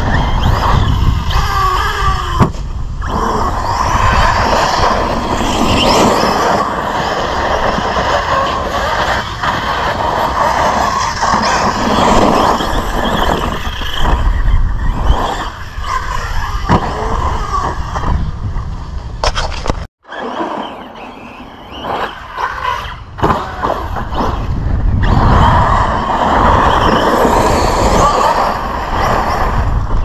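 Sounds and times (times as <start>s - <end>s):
electric rc truck driving: 0.0s - 30.0s
wind noise on microphone: 0.0s - 30.0s.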